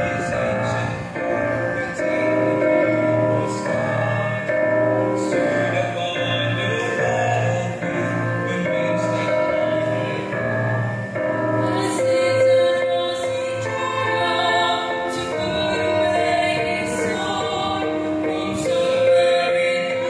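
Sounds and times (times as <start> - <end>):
vocal quartet singing in harmony: 0.0 - 20.0.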